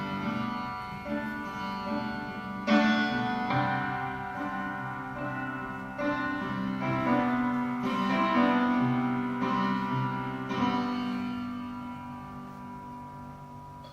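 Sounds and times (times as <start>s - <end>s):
slow keyboard chords: 0.0s - 13.9s.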